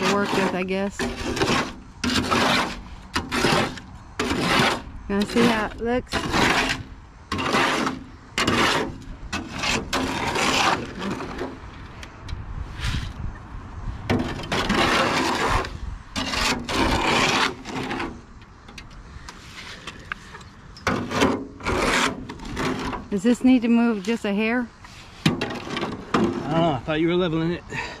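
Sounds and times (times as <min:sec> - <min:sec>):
shovel scraping wet concrete: 0:00.0 - 0:11.8, 0:14.0 - 0:18.3, 0:19.3 - 0:26.8.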